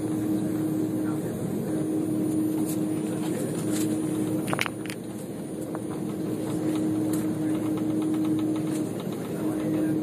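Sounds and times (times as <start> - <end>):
airliner cabin hum: 0.0 - 10.0.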